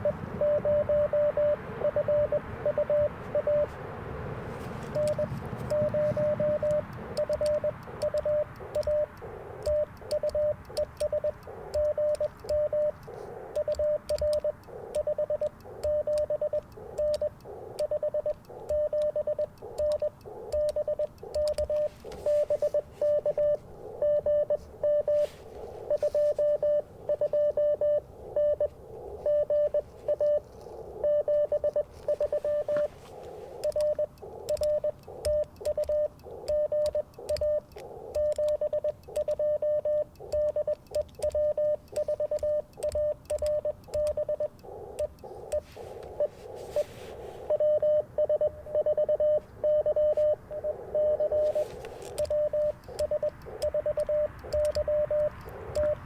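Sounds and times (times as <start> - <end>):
faint morse signals: 0.0 - 56.0
morse code tone: 0.0 - 56.0
light clicks: 4.8 - 27.4, 28.6 - 46.6, 48.7 - 56.0.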